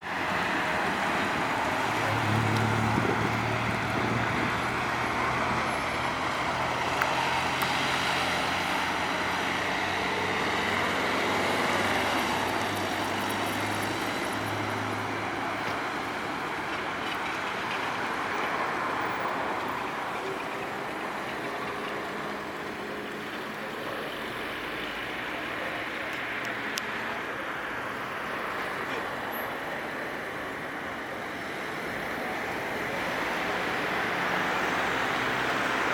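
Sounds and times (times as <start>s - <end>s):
road traffic noise: 0.0s - 35.9s
vehicle engine hum: 0.0s - 35.9s.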